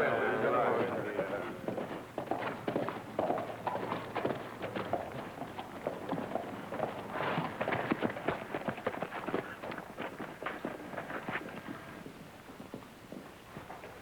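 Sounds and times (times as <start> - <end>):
horse hooves clopping: 0.0 - 14.0.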